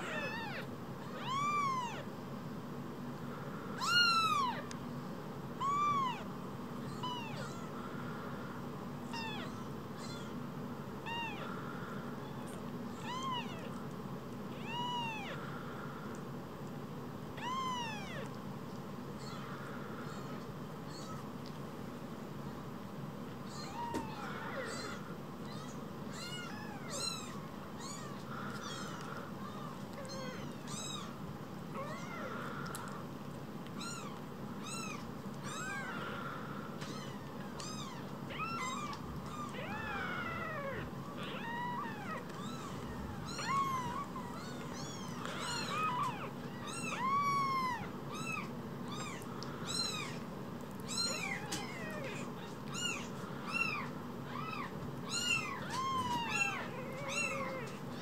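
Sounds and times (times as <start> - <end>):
kittens mewing: 0.0 - 2.1, 3.6 - 4.7, 5.6 - 10.4, 11.0 - 13.8, 14.5 - 15.8, 17.4 - 18.4, 19.2 - 21.3, 23.4 - 33.1, 33.7 - 58.0.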